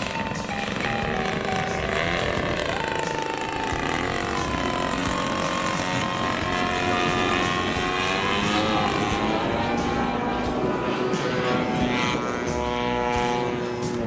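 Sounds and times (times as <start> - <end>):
model aeroplane engine in flight: 0.0 - 14.0.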